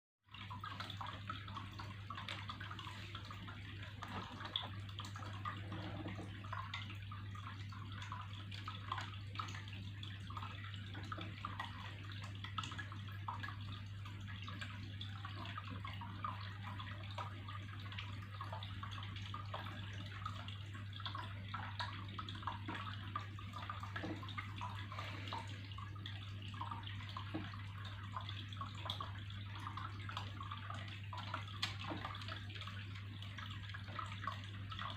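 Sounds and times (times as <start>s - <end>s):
water dripping: 0.2s - 34.9s
water trickling and splashing: 0.2s - 34.9s.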